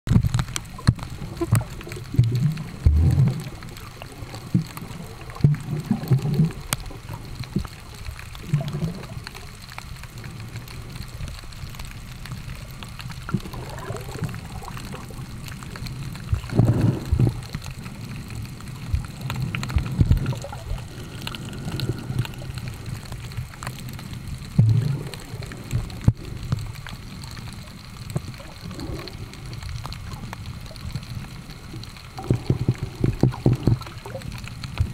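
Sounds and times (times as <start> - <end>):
muffled underwater rumble: 0.1 - 34.9
underwater swishes and thumps: 0.1 - 34.9.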